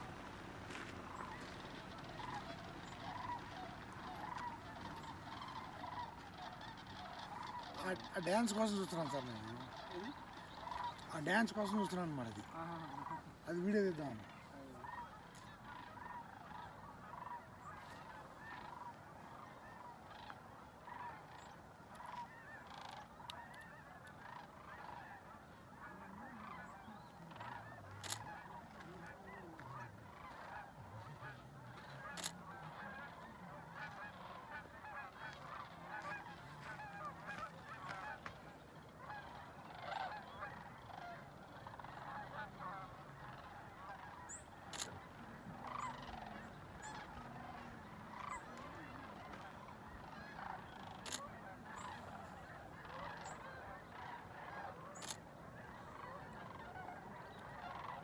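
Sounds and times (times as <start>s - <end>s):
geese and cranes calling: 0.0s - 58.0s.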